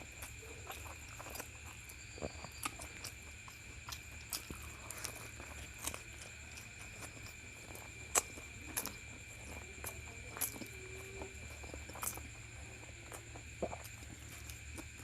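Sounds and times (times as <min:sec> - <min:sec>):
mouth clicks and smacks chewing: 0:00.0 - 0:15.0.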